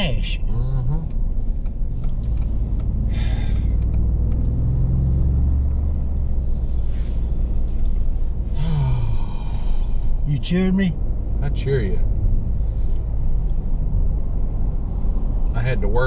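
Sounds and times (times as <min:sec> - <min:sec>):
road rumble: 0:00.0 - 0:16.0
truck engine: 0:00.0 - 0:16.0.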